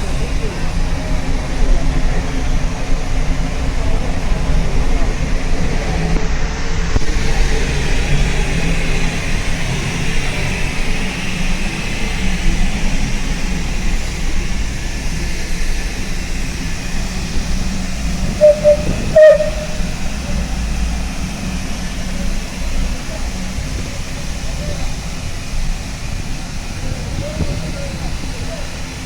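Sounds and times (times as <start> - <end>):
locomotive rumble and hiss: 0.0 - 29.0.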